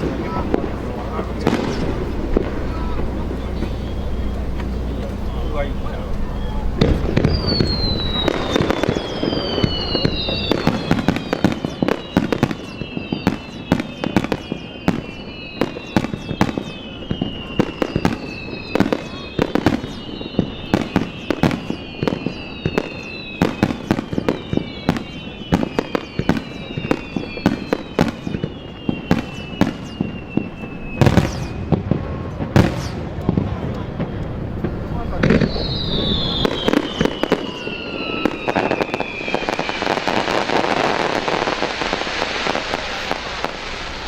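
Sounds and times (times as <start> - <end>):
falling firework whistles: 0.0 - 44.0
fireworks shells bursting: 0.0 - 44.0
heavy firework booms: 0.0 - 44.0.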